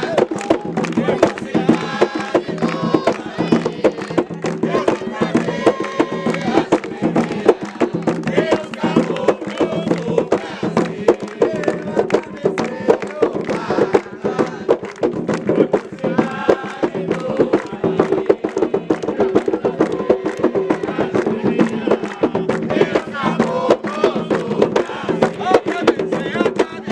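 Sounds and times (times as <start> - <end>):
group singing a chant: 0.0 - 26.9
hand drums beating: 0.0 - 26.9.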